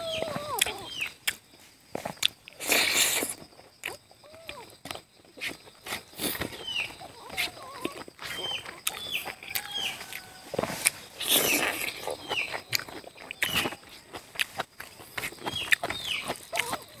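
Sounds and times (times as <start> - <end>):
bird chirping: 0.0 - 1.7, 3.8 - 17.0
wet chewing and lip smacks: 0.2 - 17.0.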